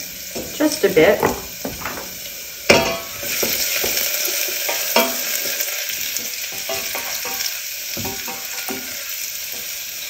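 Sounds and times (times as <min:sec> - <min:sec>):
food sizzling in hot oil: 0:00.0 - 0:10.0
wooden spoon knocking on pan: 0:00.3 - 0:05.3, 0:06.1 - 0:09.7.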